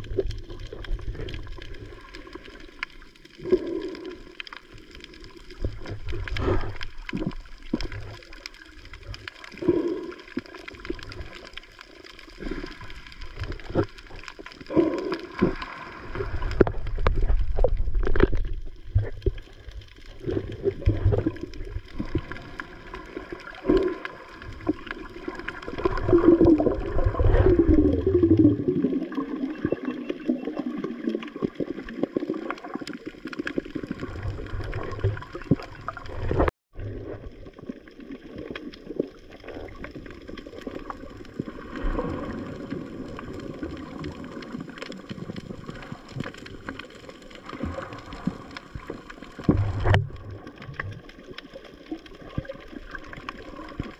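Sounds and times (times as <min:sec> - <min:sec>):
dense crackling clicks: 0:00.0 - 0:53.9
muffled underwater rush: 0:00.0 - 0:53.9.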